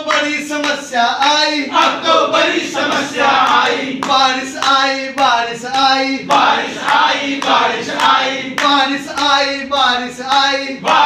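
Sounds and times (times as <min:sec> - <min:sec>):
group of adults singing in unison: 0:01.6 - 0:11.0.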